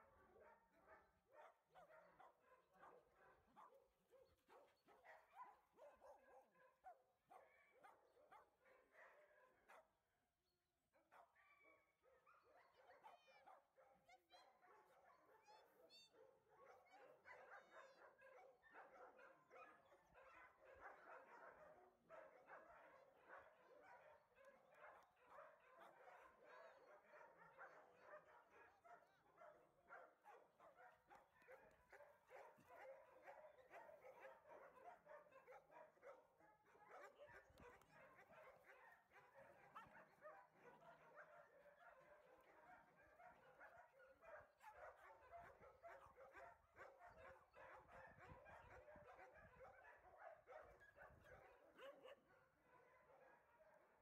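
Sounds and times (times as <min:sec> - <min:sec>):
small dogs barking and yipping: 0:00.0 - 0:09.9, 0:12.4 - 0:52.4.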